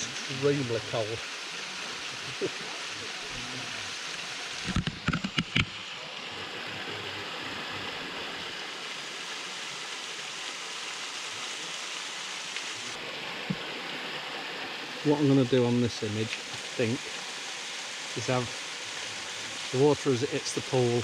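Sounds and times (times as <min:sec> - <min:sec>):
waterfall rushing into a pool: 0:00.0 - 0:21.0.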